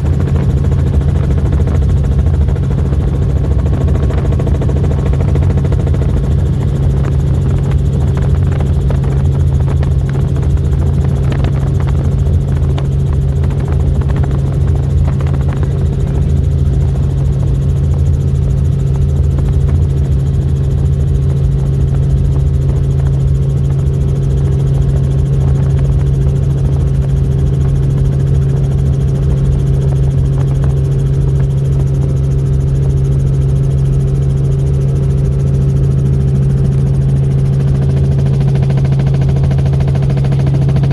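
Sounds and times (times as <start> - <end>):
helicopter drone: 0.0 - 40.9.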